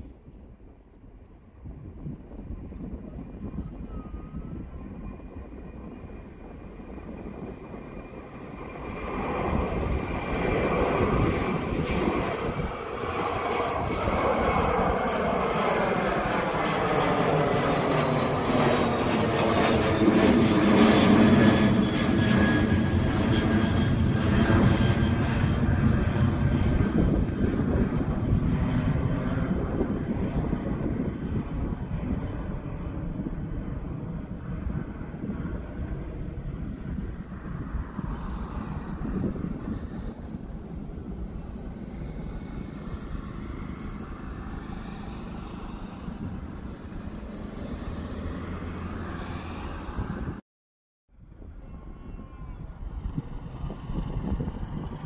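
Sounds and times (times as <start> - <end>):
jet aircraft passing overhead: 0.0 - 50.4, 51.2 - 55.0.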